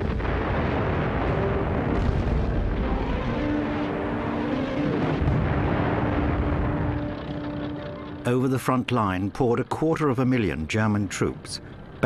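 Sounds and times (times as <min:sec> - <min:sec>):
rumble of artillery explosions: 0:00.0 - 0:12.0.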